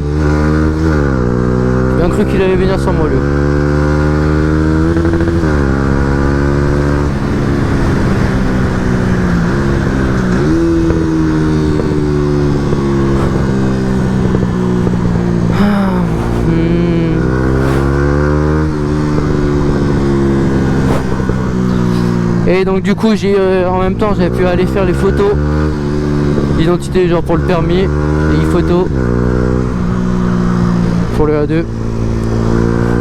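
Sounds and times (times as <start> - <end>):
motorcycle engine riding: 0.0 - 33.0.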